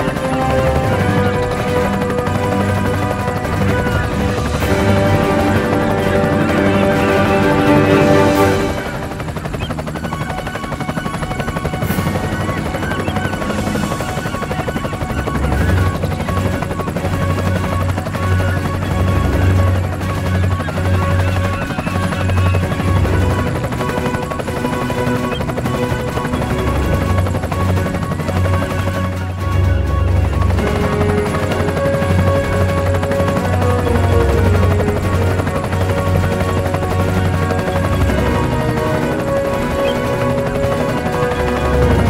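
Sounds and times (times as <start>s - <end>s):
music with sustained tones: 0.0s - 42.0s.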